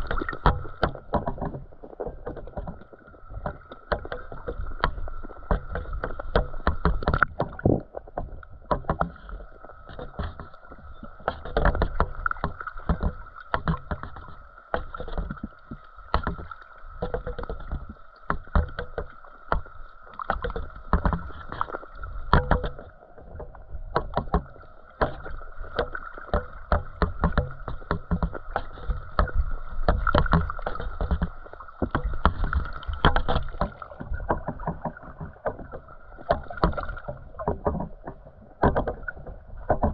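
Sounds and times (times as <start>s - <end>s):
low rumbling water noise: 0.0s - 39.9s
underwater clicks and knocks: 0.0s - 39.9s.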